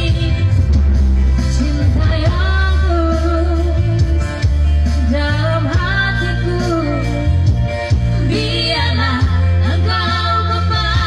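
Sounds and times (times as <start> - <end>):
woman singing into microphone: 0.0 - 0.8, 1.4 - 11.0
backing music with bass line: 0.0 - 11.0.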